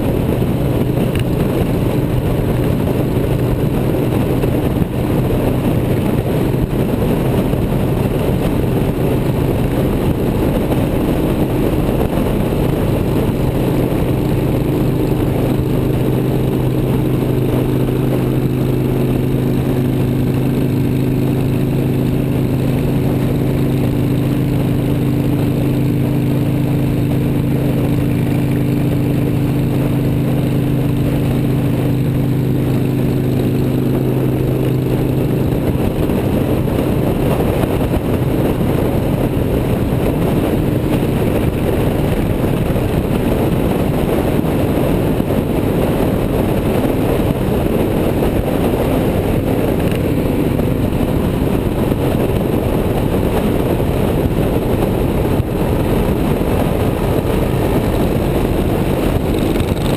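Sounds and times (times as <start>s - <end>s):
motorcycle engine droning: 0.0s - 59.9s
wind and road noise: 0.0s - 59.9s.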